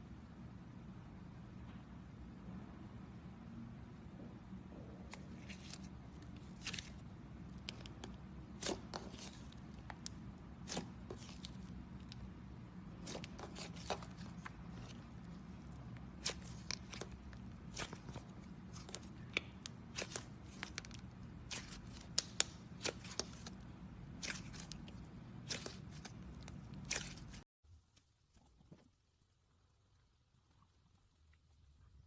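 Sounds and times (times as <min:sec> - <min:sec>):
steady low hum: 0:00.0 - 0:27.4.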